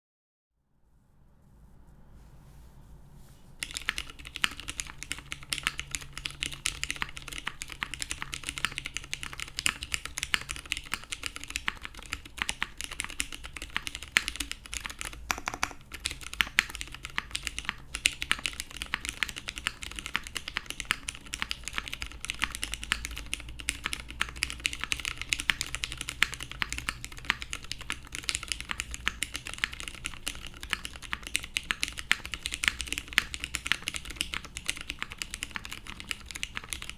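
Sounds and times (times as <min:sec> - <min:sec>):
mechanical keyboard typing: 0:03.6 - 0:36.9.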